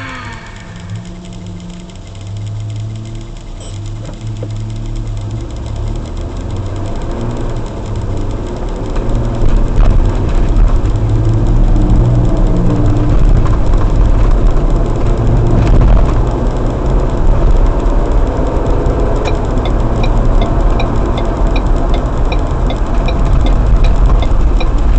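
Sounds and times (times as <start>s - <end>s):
car engine and road noise: 0.0s - 24.9s
light regular ticking: 0.0s - 24.9s.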